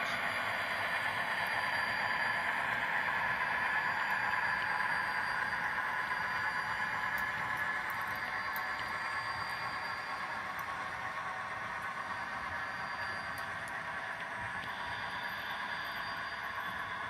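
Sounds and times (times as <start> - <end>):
model train cars rolling on track: 0.0 - 17.0.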